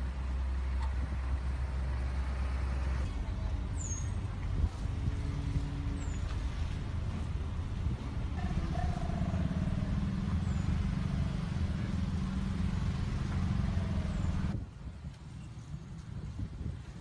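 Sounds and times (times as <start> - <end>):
quiet outdoor background: 0.0 - 17.0
steady low rumble: 3.0 - 17.0.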